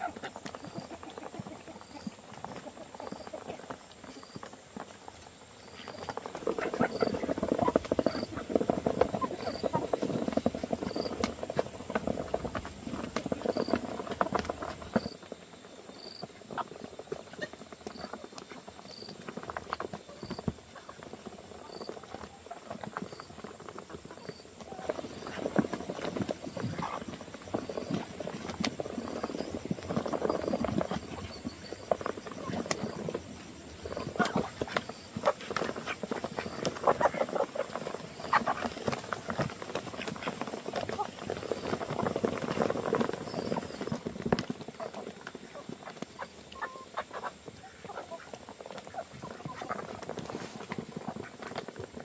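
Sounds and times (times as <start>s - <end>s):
dense rustling and crackling: 0.0s - 52.0s.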